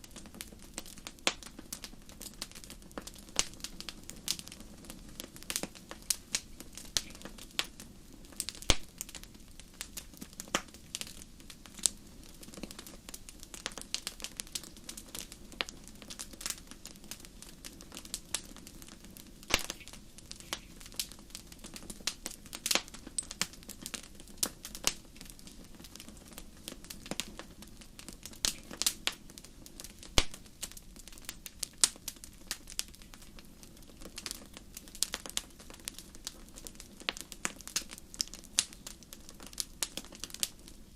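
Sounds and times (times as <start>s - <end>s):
fire flames rumbling: 0.0s - 40.9s
wood fire crackling and popping: 0.0s - 40.9s.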